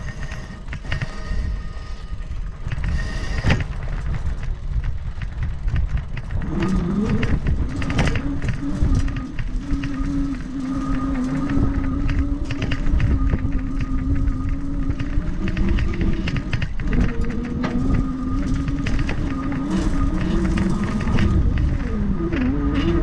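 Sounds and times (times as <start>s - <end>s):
bike rattling clicks: 0.0s - 23.0s
hub motor whine: 0.0s - 23.0s
tyres rumbling over rough ground: 0.0s - 23.0s.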